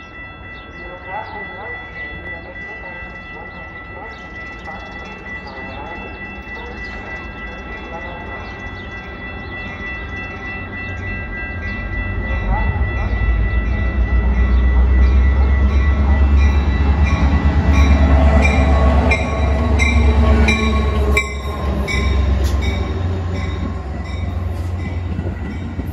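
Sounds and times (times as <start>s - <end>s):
diesel locomotive engine rumble: 0.0s - 25.9s.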